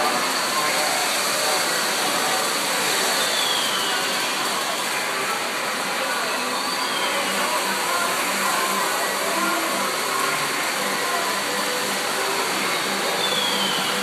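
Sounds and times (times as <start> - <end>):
model train mechanical whirring: 0.0 - 14.0.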